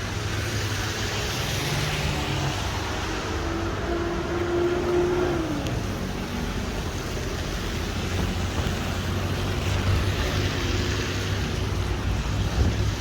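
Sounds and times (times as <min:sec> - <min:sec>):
car traffic on wet road: 0:00.0 - 0:13.0
rain hissing: 0:00.0 - 0:13.0.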